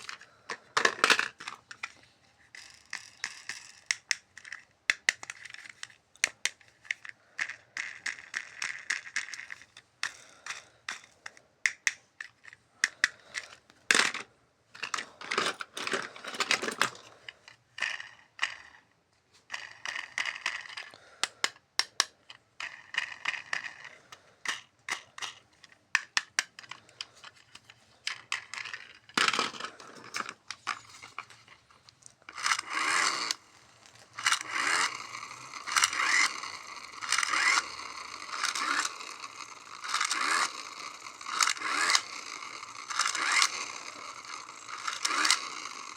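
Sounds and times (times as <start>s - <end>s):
plastic parts clicking: 0.0s - 18.9s, 19.5s - 45.9s.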